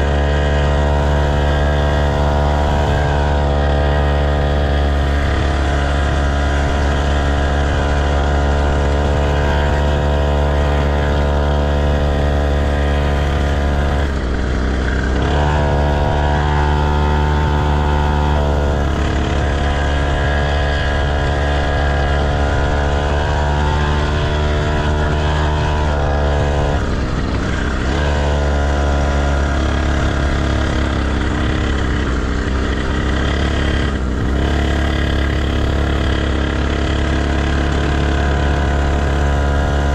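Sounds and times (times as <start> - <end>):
motocross bike engine running: 0.0 - 39.9.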